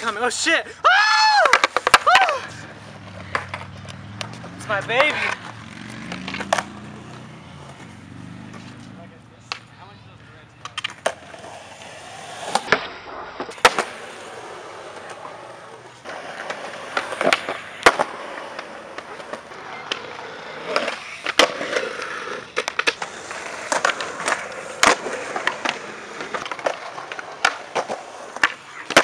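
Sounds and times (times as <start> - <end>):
skateboard wheels rolling on concrete: 0.0 - 29.0
skateboard clacking on ground: 1.2 - 9.8, 10.5 - 29.0.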